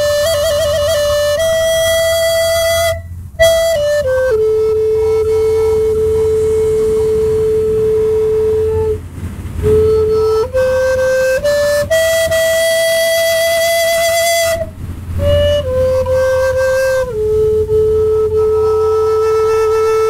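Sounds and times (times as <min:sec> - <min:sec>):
flute playing slow melody: 0:00.0 - 0:20.0.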